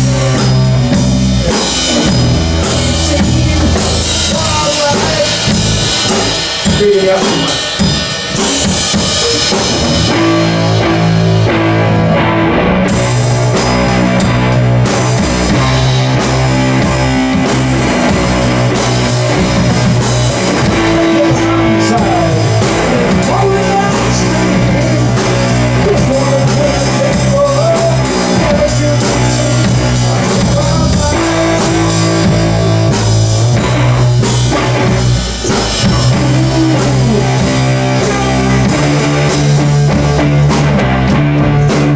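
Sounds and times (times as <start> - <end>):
rock music with electric guitar: 0.0 - 41.9.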